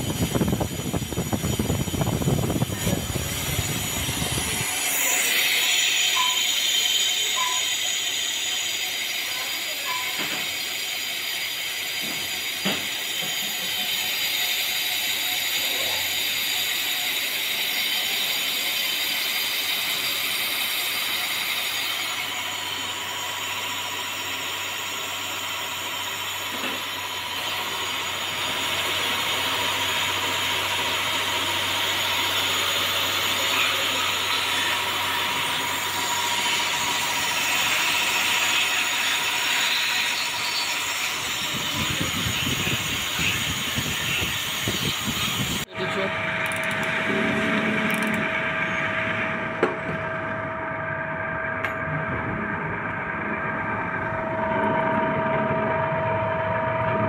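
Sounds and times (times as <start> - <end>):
metal lathe hissing whine: 0.0 - 57.0.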